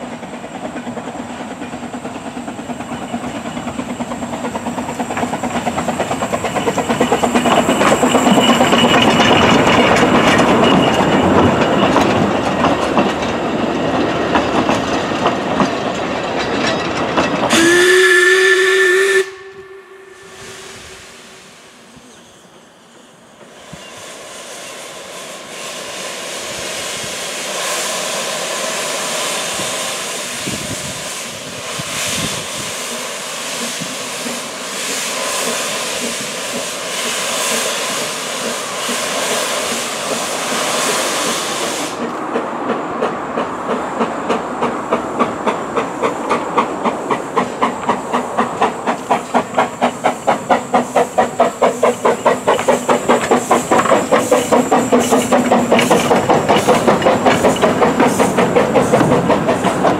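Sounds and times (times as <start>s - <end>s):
steam hissing from locomotive: 0.0s - 16.4s, 17.4s - 59.9s
steam locomotive exhaust chuffs: 0.0s - 59.9s.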